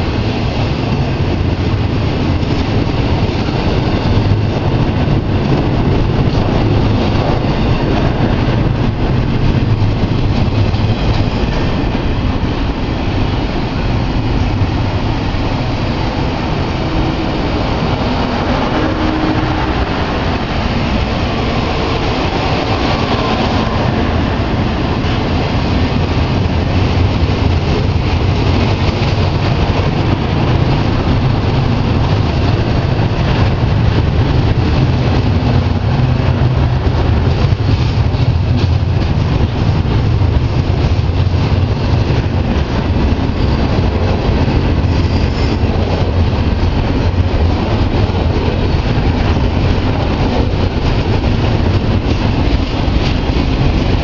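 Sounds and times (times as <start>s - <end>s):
steel wheels rumbling on rail: 0.0s - 54.0s.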